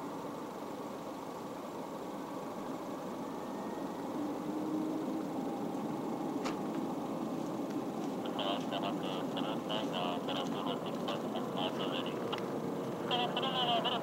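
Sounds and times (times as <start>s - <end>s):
distant jet engines rushing: 0.0s - 14.0s.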